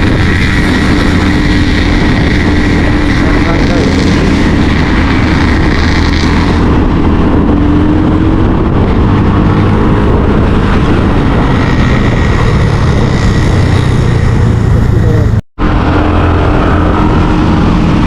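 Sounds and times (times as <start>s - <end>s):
road noise: 0.0s - 18.0s
vehicle engine running: 0.0s - 18.0s
wind: 0.0s - 18.0s.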